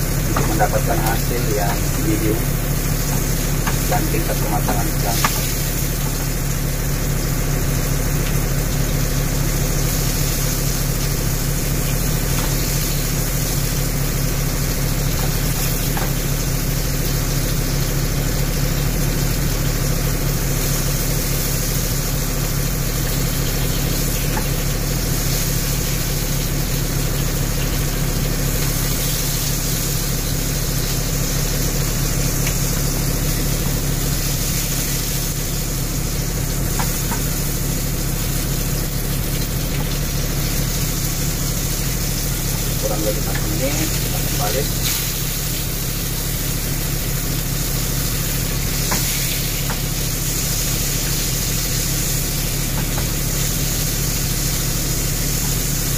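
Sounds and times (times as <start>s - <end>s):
low hum: 0.0s - 55.9s
steak sizzling in a pan: 0.0s - 55.9s.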